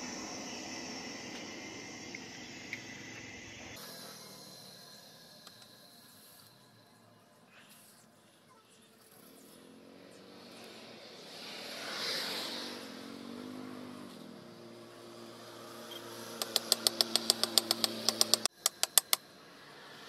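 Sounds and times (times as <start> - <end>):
engine passing by: 0.0 - 6.9, 8.8 - 18.5, 19.2 - 20.0.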